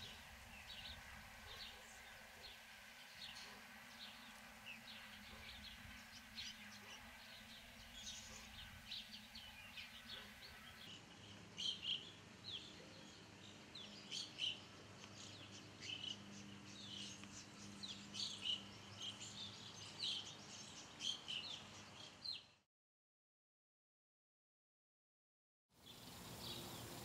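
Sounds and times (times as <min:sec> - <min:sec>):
small birds chirping: 0:00.0 - 0:22.6, 0:25.8 - 0:27.0.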